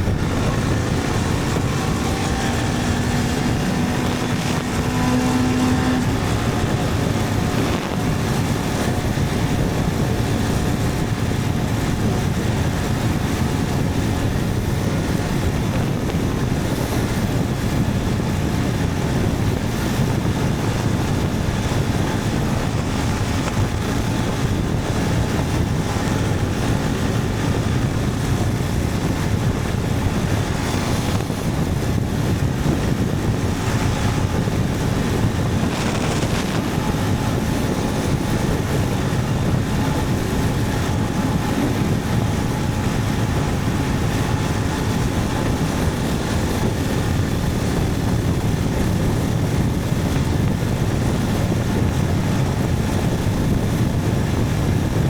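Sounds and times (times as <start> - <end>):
steady hum: 0.0 - 54.8
motorcycle engine running: 0.0 - 55.0
wind noise on microphone: 0.0 - 55.0.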